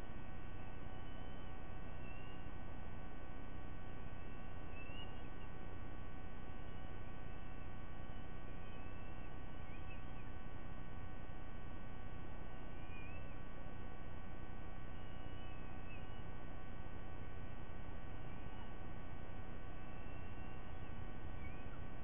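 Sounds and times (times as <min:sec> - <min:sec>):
electrical hum: 0:00.0 - 0:22.0
faint bird chirps: 0:00.2 - 0:02.7, 0:03.8 - 0:10.8, 0:12.5 - 0:13.7, 0:14.7 - 0:22.0.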